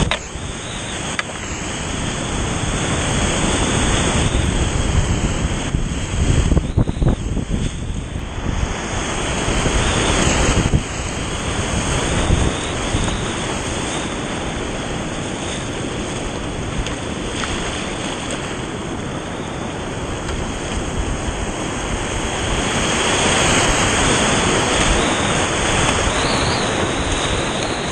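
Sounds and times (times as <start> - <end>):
whitewater rushing and splashing: 0.0 - 27.9.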